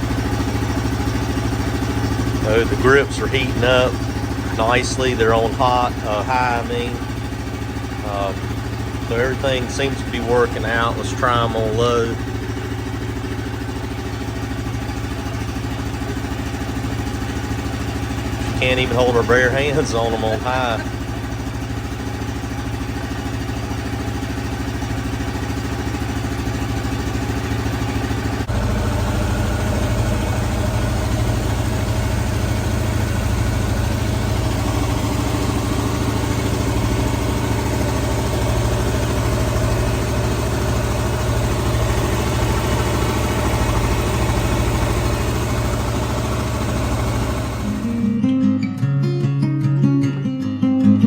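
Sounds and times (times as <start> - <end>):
atv engine idling: 0.0 - 48.2.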